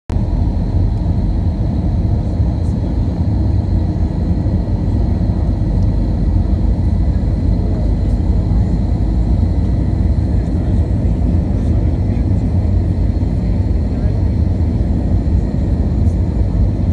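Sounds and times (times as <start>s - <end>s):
jet engine rumble: 0.1s - 16.9s.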